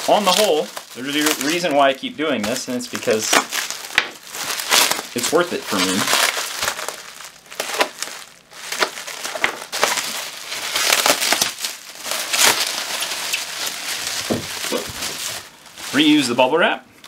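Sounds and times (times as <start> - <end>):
bubble wrap crinkling: 0.0 - 16.5.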